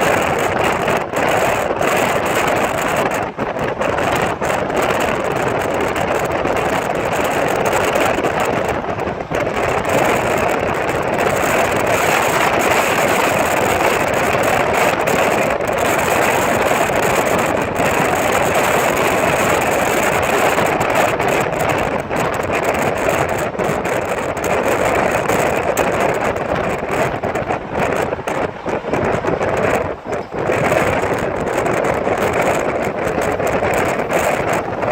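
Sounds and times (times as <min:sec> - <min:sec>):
vehicle running noise: 0:00.0 - 0:34.9
wind rushing over microphone: 0:00.0 - 0:34.9.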